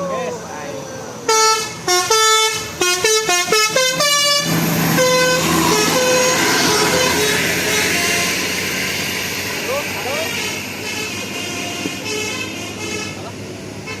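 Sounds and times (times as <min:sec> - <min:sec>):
bus engine running: 0:00.0 - 0:14.0
musical bus air horn: 0:01.3 - 0:09.0, 0:10.1 - 0:14.0.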